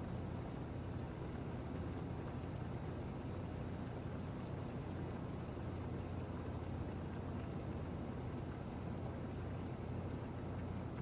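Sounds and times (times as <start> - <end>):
low rumble of harbour ambience: 0.0 - 11.0.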